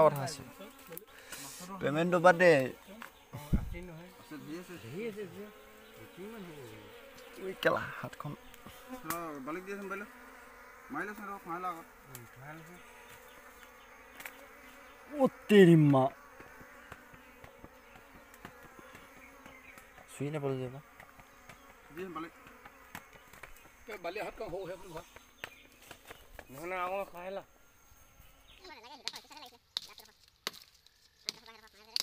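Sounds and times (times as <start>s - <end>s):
flying insects buzzing: 0.0s - 32.0s.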